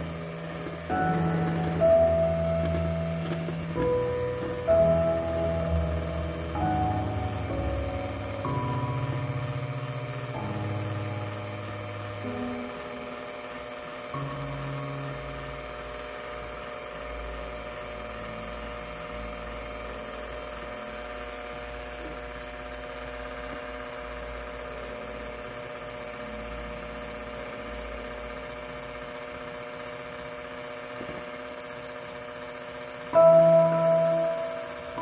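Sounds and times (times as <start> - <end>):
electric hand mixer running: 0.0 - 35.0.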